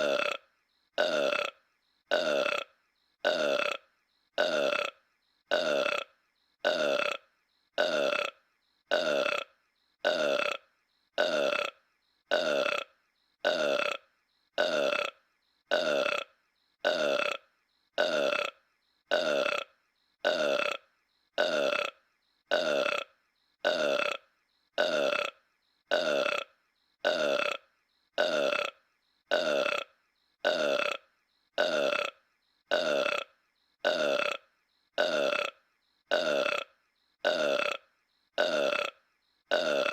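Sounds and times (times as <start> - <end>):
cartoon ape burping: 0.0 - 39.9.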